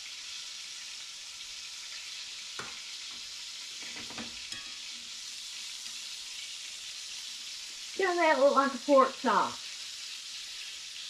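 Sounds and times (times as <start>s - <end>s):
chicken sizzling in a skillet: 0.0s - 11.0s.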